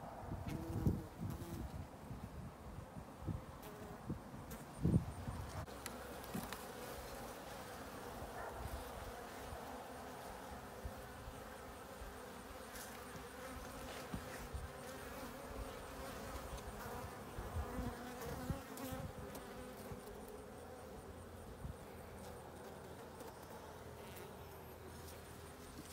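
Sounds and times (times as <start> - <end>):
bees buzzing in hive: 3.6 - 25.9.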